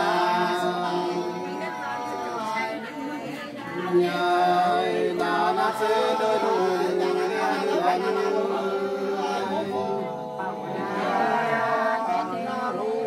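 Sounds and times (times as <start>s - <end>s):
two voices singing in harmony: 0.0s - 13.0s.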